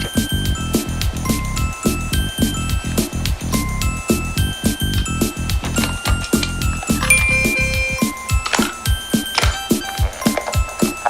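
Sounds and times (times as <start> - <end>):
upbeat music with bell-like notes: 0.0 - 11.0.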